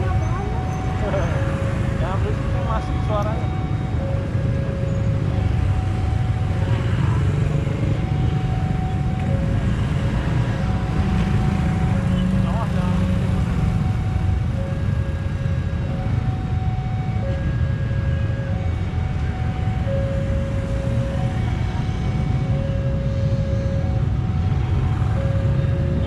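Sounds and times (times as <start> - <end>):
level crossing warning alarm: 0.0 - 26.0
passing vehicles rumble: 0.0 - 26.0.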